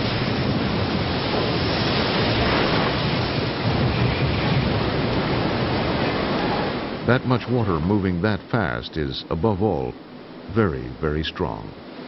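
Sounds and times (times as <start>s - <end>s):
flood water rushing: 0.0s - 12.0s.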